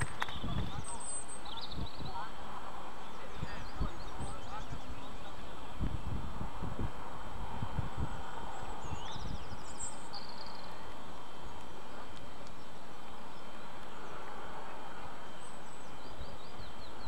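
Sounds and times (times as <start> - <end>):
background hiss: 0.0 - 17.0
small birds chirping: 0.0 - 17.0
wind rumble on microphone: 0.0 - 17.0.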